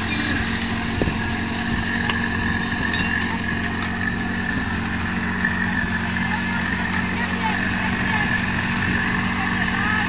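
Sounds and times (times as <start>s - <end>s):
pump engine running: 0.0s - 10.0s
steady high whine: 0.0s - 10.0s.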